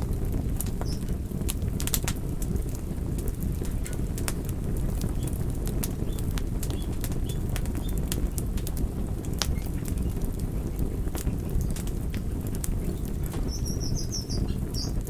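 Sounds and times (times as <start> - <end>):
flames rumbling: 0.0 - 15.0
wood crackling and popping: 0.0 - 15.0.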